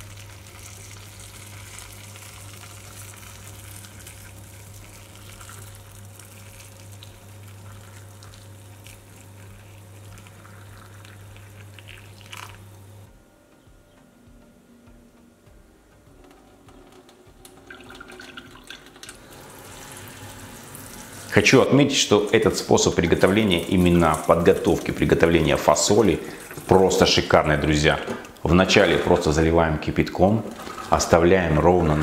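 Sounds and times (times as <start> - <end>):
water pouring onto beans in bowl: 0.0 - 12.7, 17.6 - 29.4, 30.2 - 32.0
low steady hum: 0.0 - 32.0.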